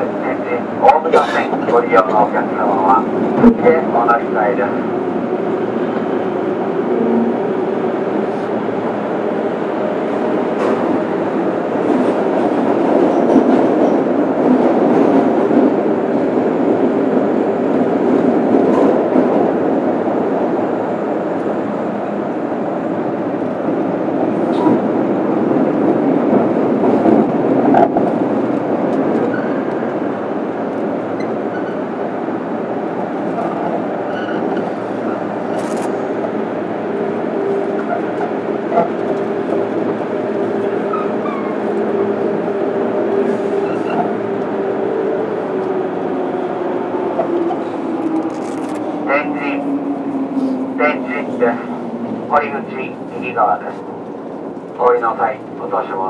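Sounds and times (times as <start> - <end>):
train wheels and motors in tunnel: 0.0 - 56.0.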